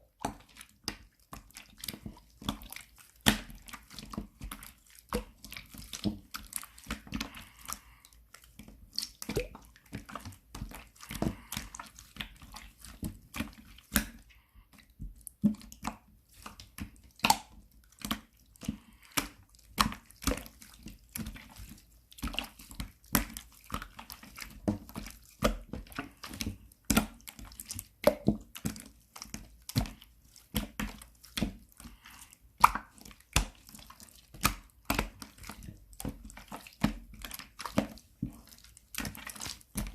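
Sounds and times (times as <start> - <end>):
hands squishing slime: 0.0 - 39.9.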